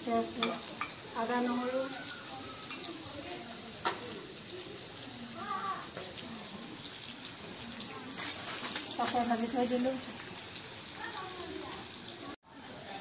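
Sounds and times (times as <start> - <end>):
greens sizzling in a wok: 0.0 - 13.0.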